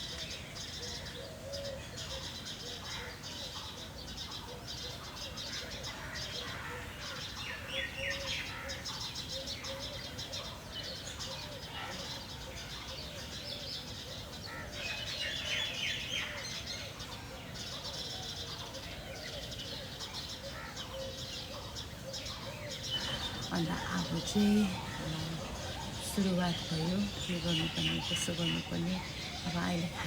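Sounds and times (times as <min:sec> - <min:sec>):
birds chirping: 0:00.0 - 0:30.0
sweeping bird calls: 0:00.0 - 0:30.0
low repeated bird call: 0:05.4 - 0:30.0.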